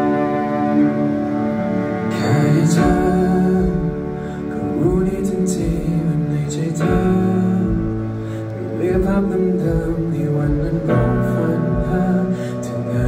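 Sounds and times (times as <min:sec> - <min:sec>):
man singing into a microphone: 0:02.1 - 0:13.0.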